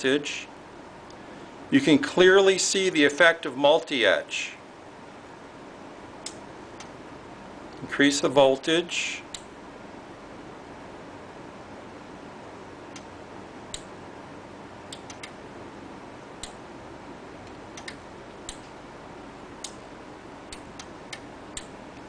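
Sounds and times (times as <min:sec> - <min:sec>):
steady low hiss: 0:00.0 - 0:22.0.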